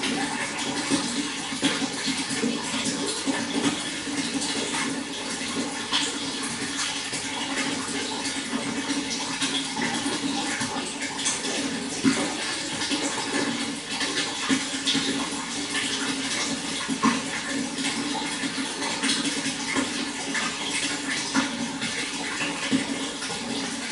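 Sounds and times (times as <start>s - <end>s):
running water splashing: 0.0s - 23.9s.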